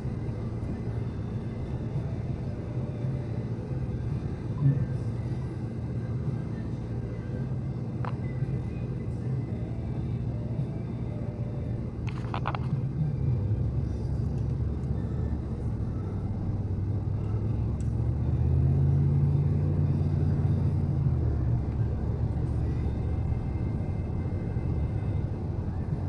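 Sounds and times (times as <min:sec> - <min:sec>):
engine running with low rumble: 0:00.0 - 0:26.0.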